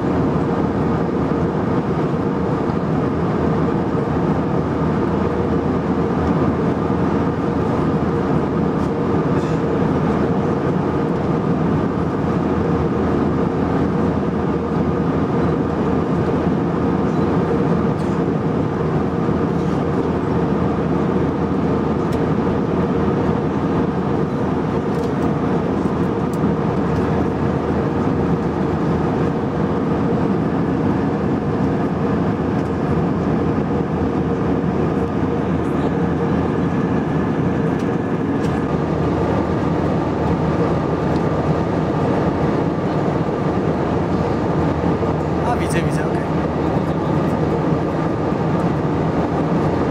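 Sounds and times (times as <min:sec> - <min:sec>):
jet airliner cabin noise: 0:00.0 - 0:49.9.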